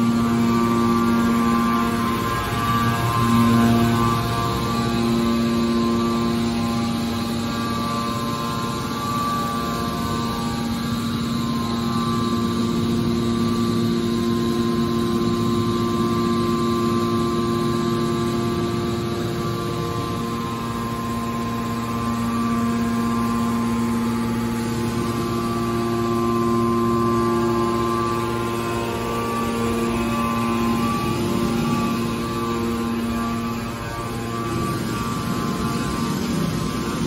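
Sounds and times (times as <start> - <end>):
hydraulic pump motor humming: 0.0 - 37.0.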